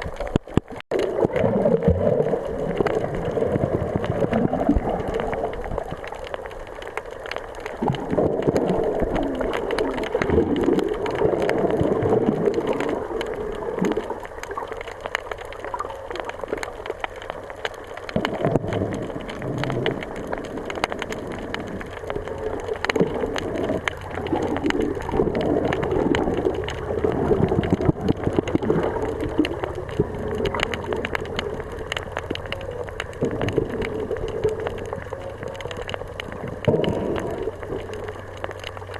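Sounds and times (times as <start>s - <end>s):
crackle of small clicks: 0.0s - 38.9s
sea water washing over shore: 0.0s - 38.9s.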